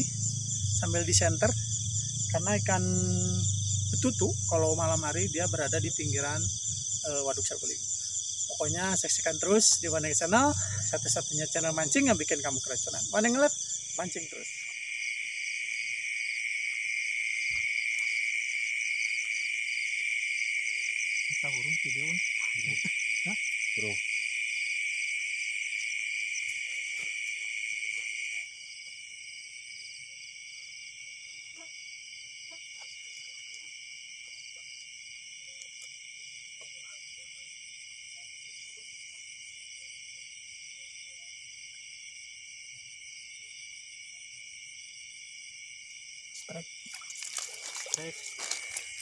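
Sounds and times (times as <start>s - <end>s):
crickets and night insects chirping: 0.0s - 49.0s.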